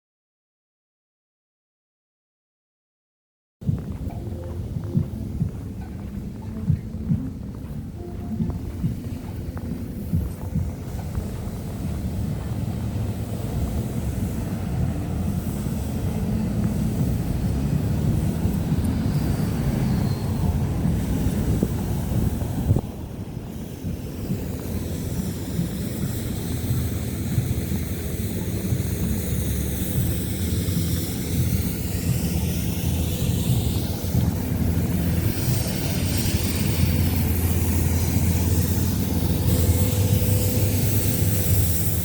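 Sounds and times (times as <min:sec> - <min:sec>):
passing vehicle traffic: 0:03.9 - 0:42.0.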